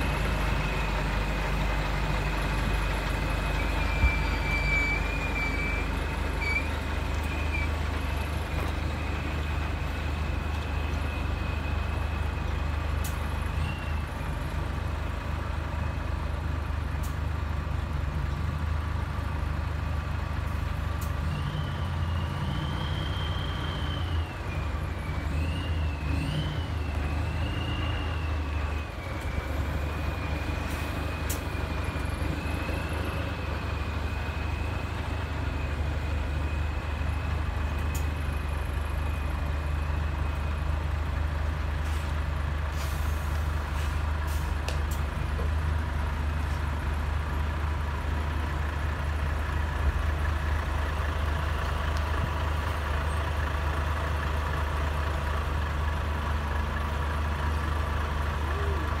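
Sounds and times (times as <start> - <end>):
truck diesel engines rumbling: 0.0 - 59.0.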